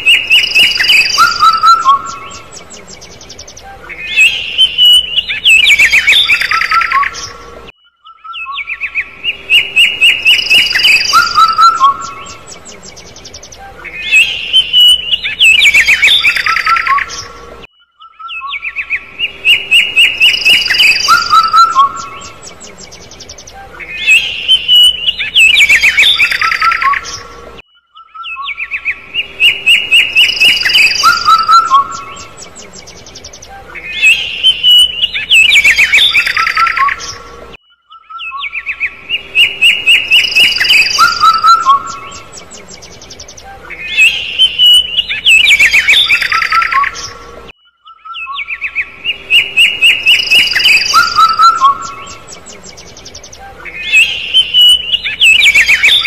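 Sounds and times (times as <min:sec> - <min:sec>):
young bird chirping: 0:00.0 - 0:56.0.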